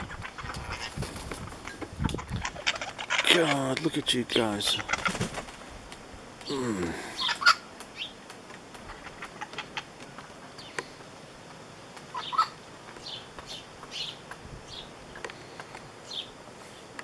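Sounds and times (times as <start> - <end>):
parrots calling: 0.0 - 5.7, 6.3 - 16.8.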